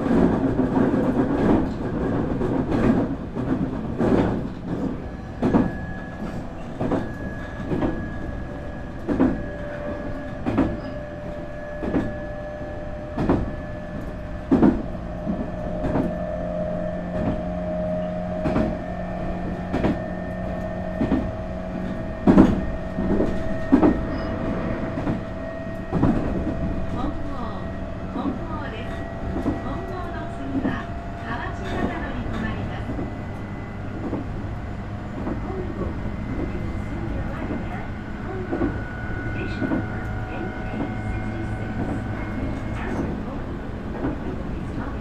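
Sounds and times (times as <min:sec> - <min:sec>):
rail-joint clacks: 0:00.0 - 0:45.0
train rolling rumble: 0:00.0 - 0:45.0.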